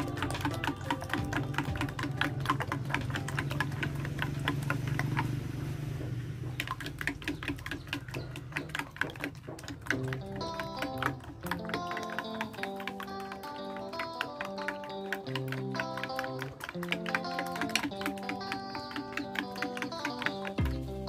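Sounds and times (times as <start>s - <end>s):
spoon beating eggs in bowl: 0.0s - 21.0s.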